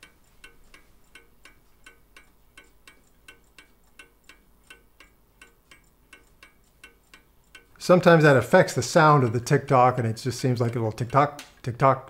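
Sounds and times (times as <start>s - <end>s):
clock ticking softly: 0.0s - 12.0s.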